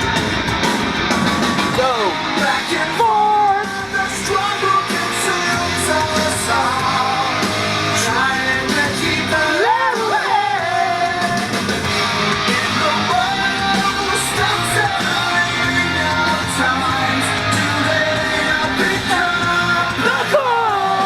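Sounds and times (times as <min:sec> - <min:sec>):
rock band playing: 0:00.0 - 0:21.0
person singing: 0:01.4 - 0:21.0.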